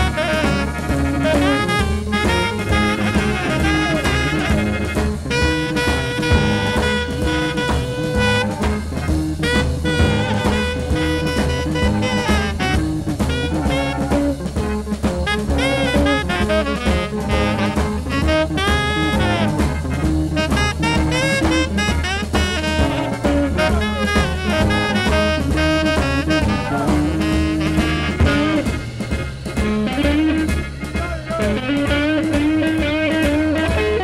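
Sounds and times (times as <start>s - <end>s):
bass and drums: 0.0s - 34.0s
horns playing sliding riffs: 0.0s - 34.0s.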